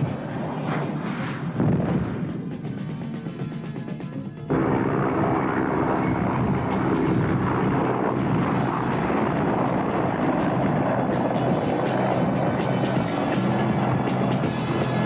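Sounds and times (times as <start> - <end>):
helicopter rotor and turbine noise: 0.0 - 15.0.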